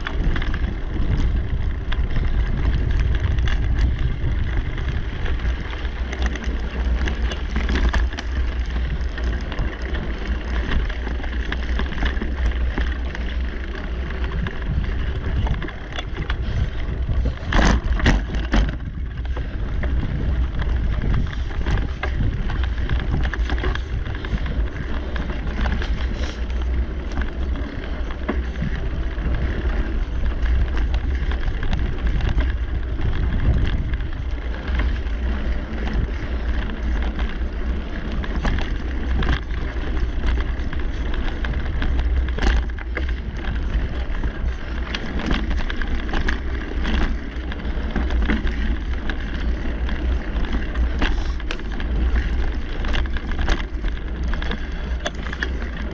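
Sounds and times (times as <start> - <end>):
bike clicks and rattles: 0.0 - 55.9
wind and tyres rumbling: 0.0 - 55.9.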